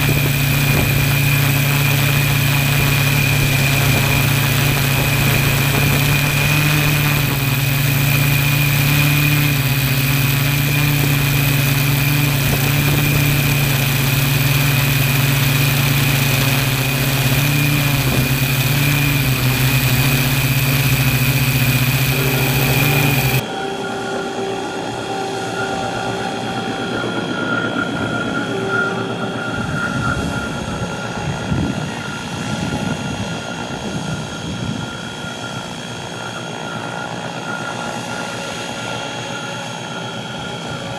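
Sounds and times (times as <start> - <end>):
rc helicopter motor whine: 0.0 - 40.9.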